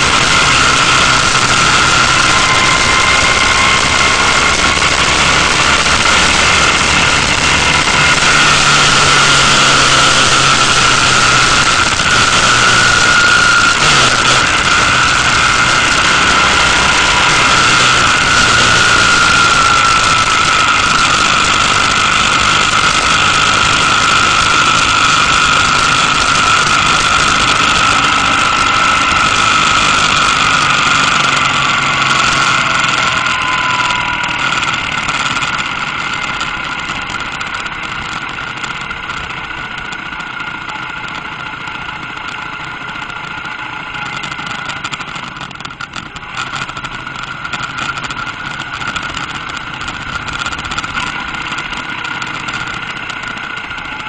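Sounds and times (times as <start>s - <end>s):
high whine: 0.0s - 54.0s
motorcycle engine: 0.0s - 54.0s.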